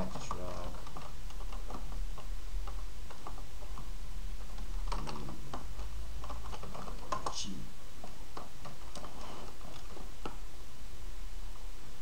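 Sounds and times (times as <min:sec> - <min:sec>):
keyboard typing: 0:00.0 - 0:10.4
low electrical hum: 0:00.0 - 0:12.0.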